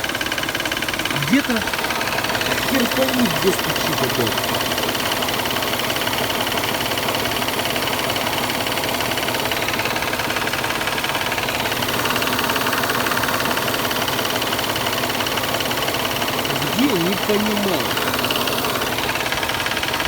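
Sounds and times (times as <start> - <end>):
car engine running: 0.0 - 20.0
fast even engine knocking: 0.0 - 20.0.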